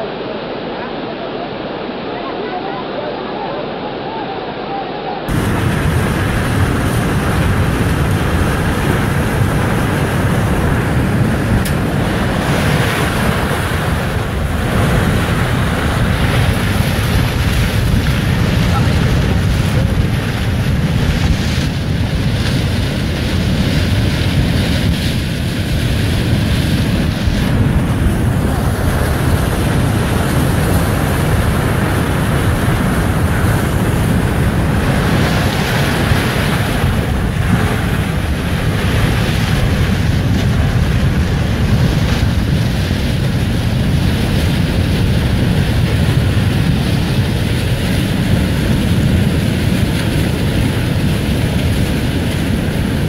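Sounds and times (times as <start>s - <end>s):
debris flow rumbling: 5.3s - 53.0s
wind noise on microphone: 5.3s - 53.0s.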